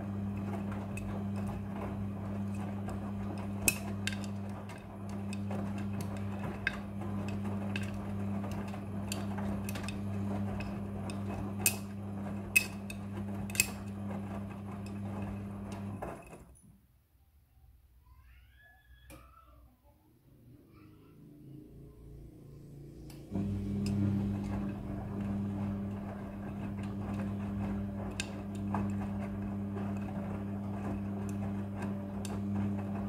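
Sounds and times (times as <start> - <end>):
washing machine tumbling laundry: 0.0 - 16.6, 21.2 - 33.0.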